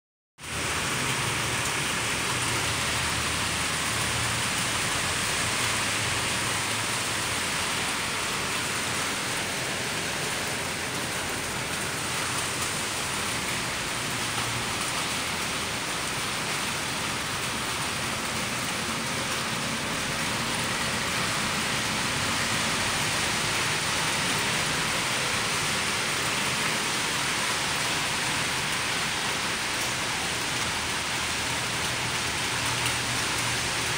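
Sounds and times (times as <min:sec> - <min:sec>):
rain falling on grass and paving: 0:00.4 - 0:33.9.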